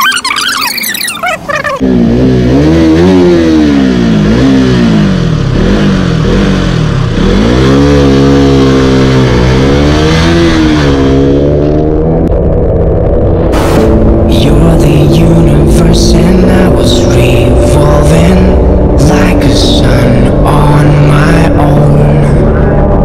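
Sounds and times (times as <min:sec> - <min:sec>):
motorcycle engine accelerating: 0:01.8 - 0:23.0.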